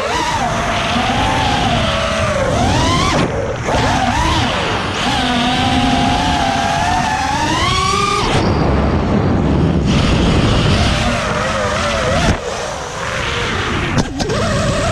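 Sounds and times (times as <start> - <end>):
quadcopter motors whining: 0.0 - 14.9
rough rushing noise: 0.0 - 14.9.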